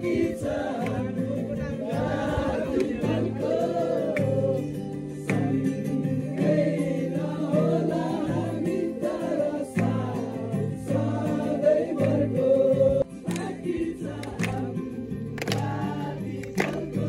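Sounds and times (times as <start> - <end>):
men singing together: 0.0 - 17.0
strummed acoustic guitar: 0.0 - 17.0.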